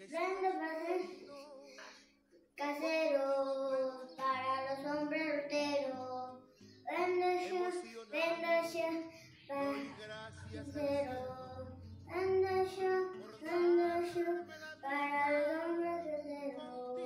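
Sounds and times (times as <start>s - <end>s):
girl singing vendor's cry: 2.6s - 17.0s.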